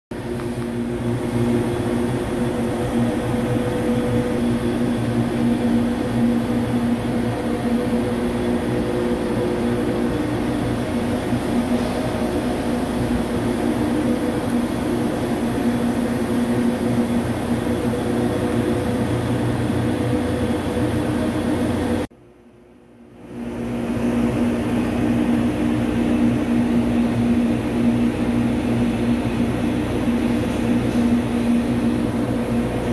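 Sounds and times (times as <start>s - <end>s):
machinery drone: 0.2s - 22.1s, 23.2s - 32.9s.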